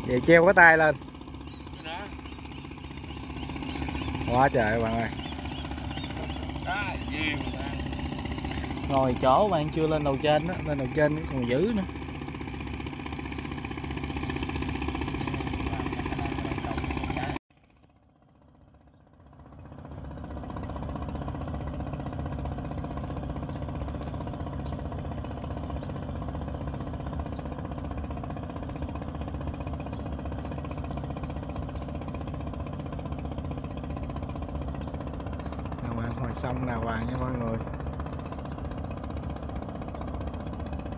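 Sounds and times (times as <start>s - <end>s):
small engine droning: 0.0s - 40.9s.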